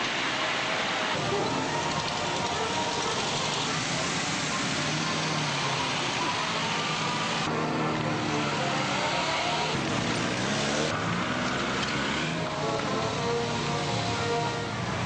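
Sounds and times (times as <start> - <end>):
car engines with road noise: 0.0 - 15.0.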